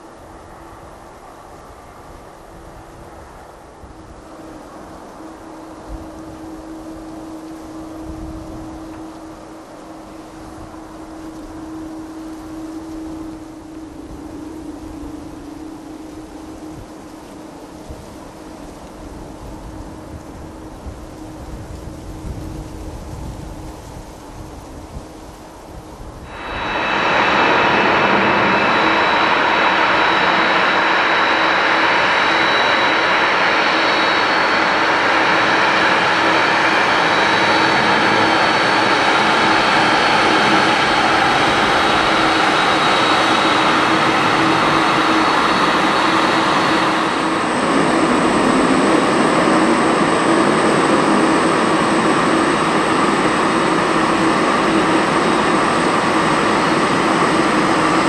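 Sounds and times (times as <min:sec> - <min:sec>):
jet engines rumbling with whine: 0:00.0 - 0:58.0
thin high whine: 0:00.0 - 0:58.0.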